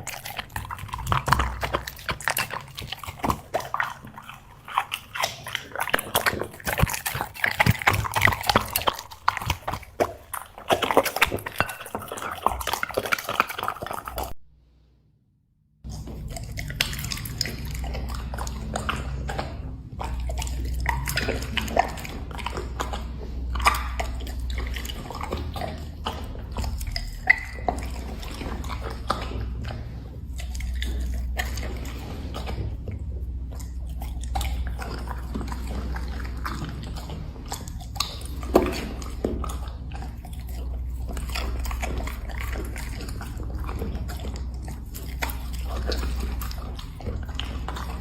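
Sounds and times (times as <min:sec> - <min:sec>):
dog chewing treats: 0:00.0 - 0:14.4, 0:15.9 - 0:48.0.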